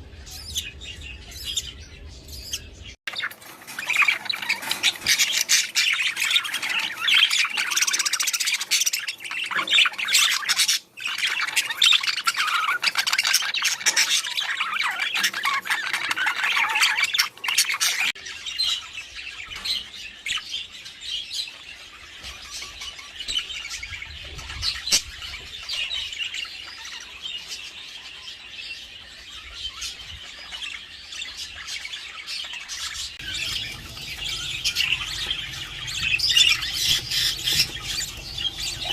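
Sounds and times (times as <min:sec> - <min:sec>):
budgerigars chattering and squawking: 0:00.2 - 0:38.9.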